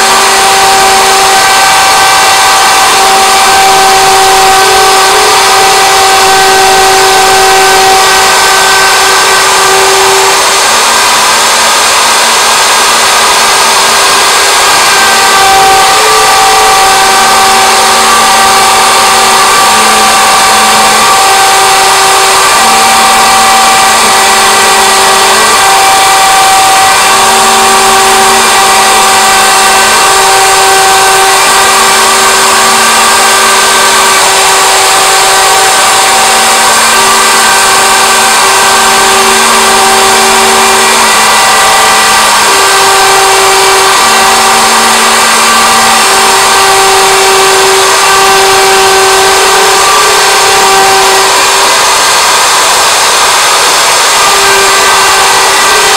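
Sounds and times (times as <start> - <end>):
router spindle motor whine: 0.0 - 55.9
stepper motor tones: 0.0 - 55.9.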